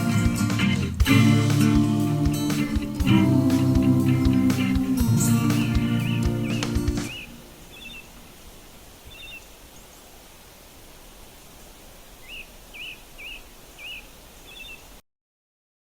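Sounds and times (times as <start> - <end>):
songbird chirping: 0.0 - 15.0
steady outdoor hiss: 0.0 - 15.0.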